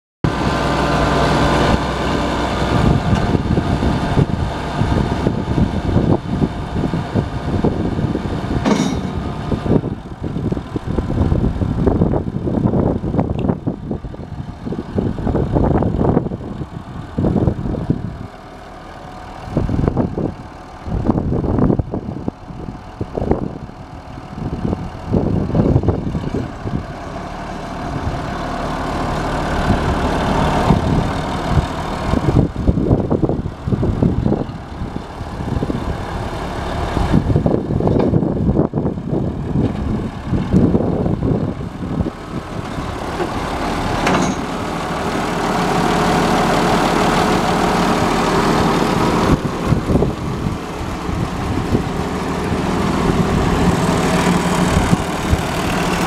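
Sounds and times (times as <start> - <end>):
tractor diesel engine running: 0.3 - 56.0.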